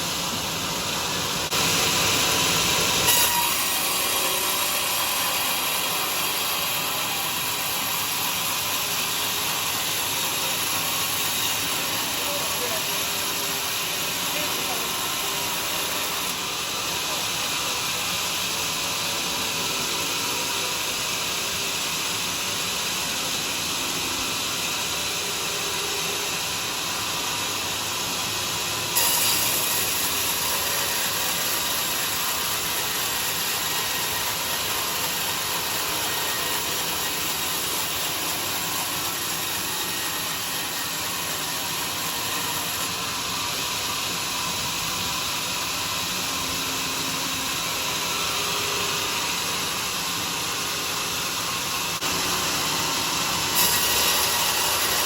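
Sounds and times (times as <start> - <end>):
sawmill saw cutting log: 0.0 - 55.0.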